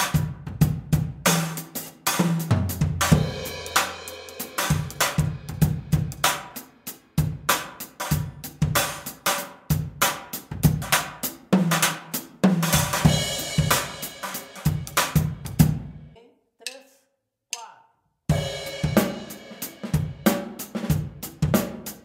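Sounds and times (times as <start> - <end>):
hi-hat and crash cymbals: 1.2 - 15.8, 18.3 - 22.0.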